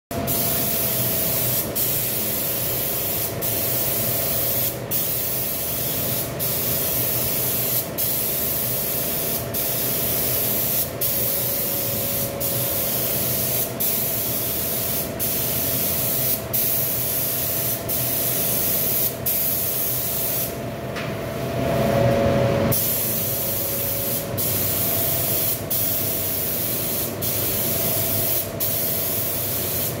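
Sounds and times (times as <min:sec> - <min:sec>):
spray gun hissing: 0:00.2 - 0:20.5, 0:22.7 - 0:30.0.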